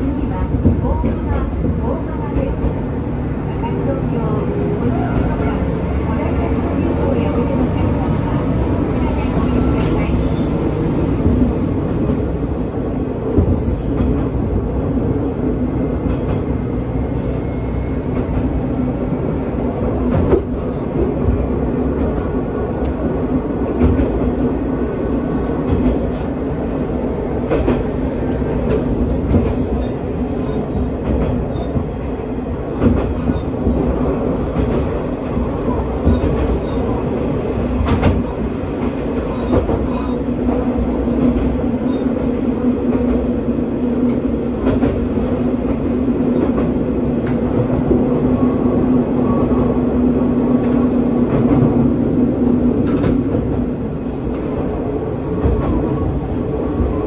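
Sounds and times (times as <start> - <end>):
railcar engine and wheels rumbling: 0.0 - 57.0.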